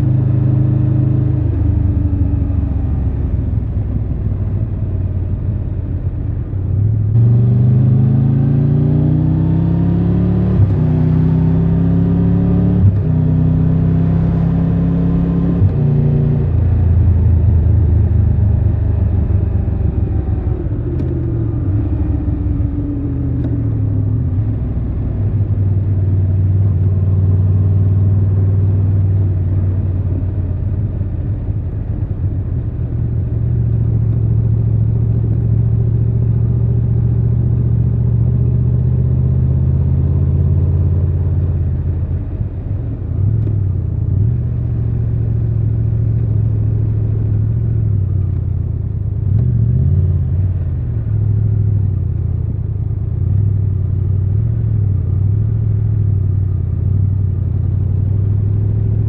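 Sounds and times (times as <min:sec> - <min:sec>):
motorcycle engine and exhaust running: 0:00.0 - 0:07.4, 0:15.6 - 0:59.0.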